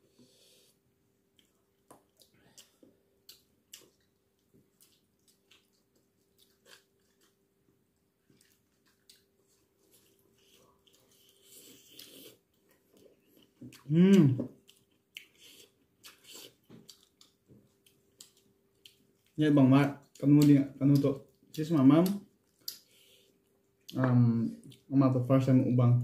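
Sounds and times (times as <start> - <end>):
soft chewing: 0.0 - 24.9.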